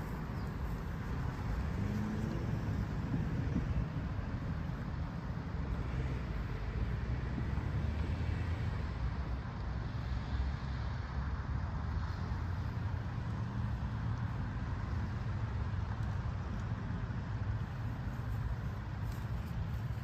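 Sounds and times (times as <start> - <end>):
vehicle low rumble: 0.0 - 20.0.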